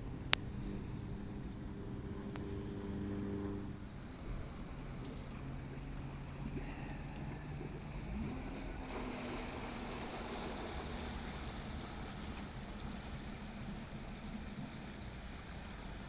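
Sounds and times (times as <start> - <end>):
boat engine running: 0.0 - 16.0
prop wash hissing and churning: 0.0 - 16.0.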